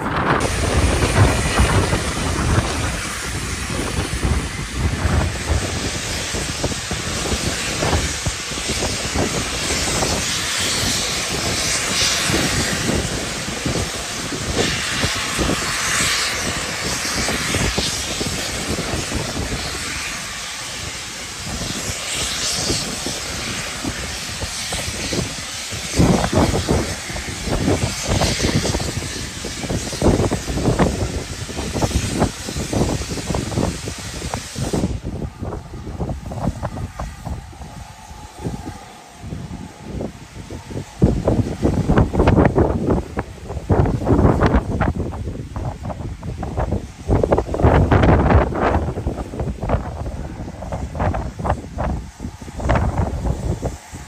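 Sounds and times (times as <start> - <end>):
steam locomotive hissing: 0.0 - 54.0
wind buffeting microphone: 0.0 - 54.0.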